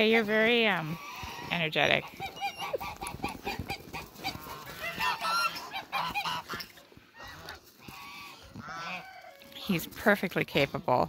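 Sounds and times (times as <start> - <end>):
geese honking: 0.0 - 9.8.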